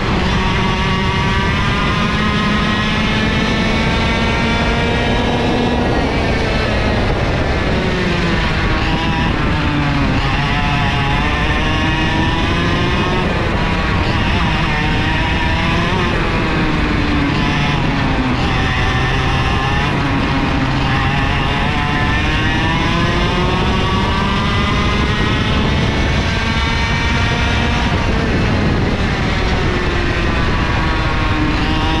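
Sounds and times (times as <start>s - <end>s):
kart engine revving: 0.0s - 32.0s.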